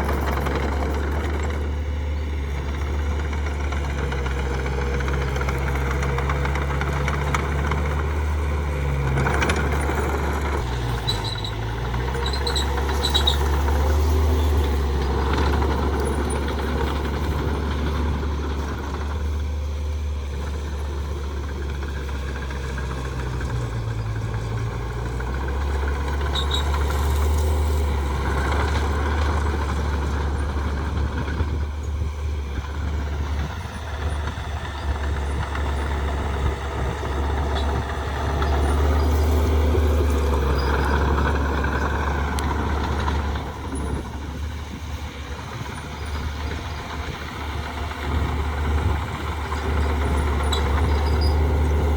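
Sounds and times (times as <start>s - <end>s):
heavy diesel machinery engine: 0.0s - 51.9s.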